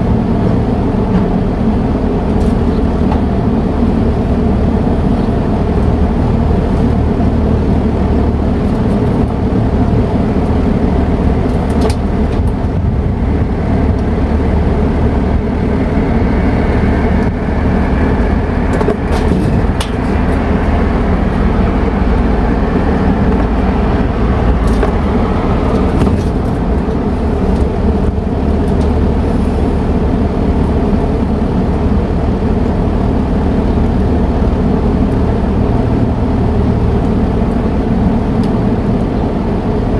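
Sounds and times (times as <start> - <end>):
air conditioner units humming: 0.0 - 39.9.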